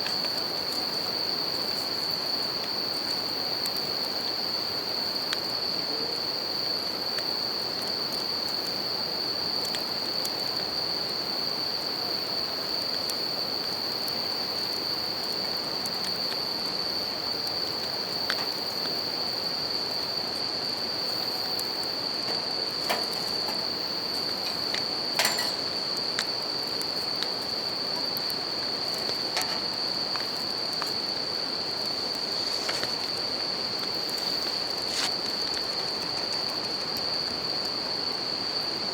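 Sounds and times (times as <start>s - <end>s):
campfire crackling: 0.0s - 38.8s
crickets singing: 0.0s - 38.9s.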